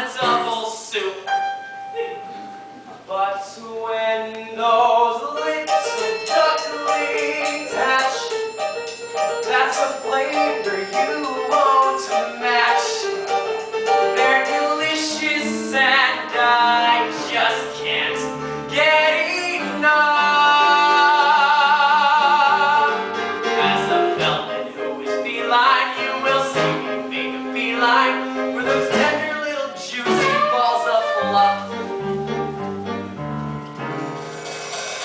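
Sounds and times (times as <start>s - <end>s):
singers performing show tune: 0.0s - 1.3s, 2.2s - 33.0s
instrumental accompaniment: 0.0s - 3.1s, 5.2s - 35.0s.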